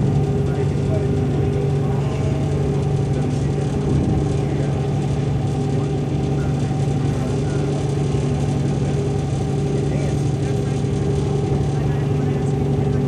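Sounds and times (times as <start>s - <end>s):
ship engine droning: 0.0s - 13.0s.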